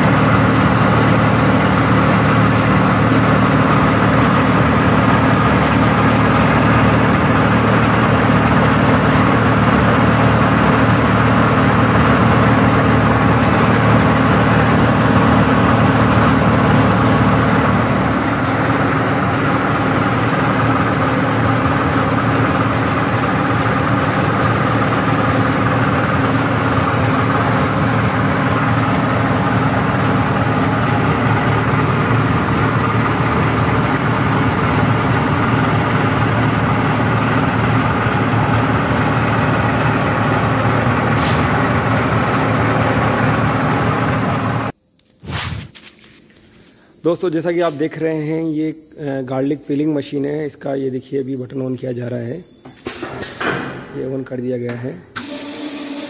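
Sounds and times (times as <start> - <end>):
machine mechanical hum: 0.0 - 56.0.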